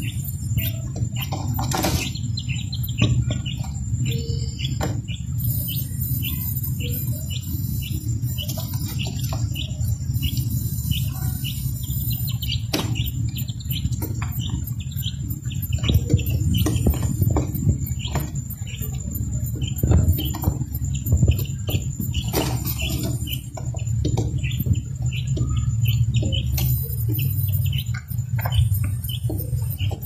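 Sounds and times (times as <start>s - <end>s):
quail chick peeping: 0.0s - 30.0s.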